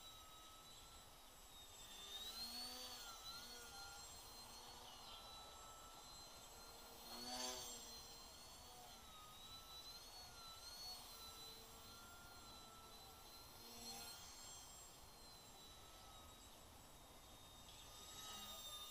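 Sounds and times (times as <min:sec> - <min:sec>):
quadcopter motors whining: 0:00.0 - 0:18.9.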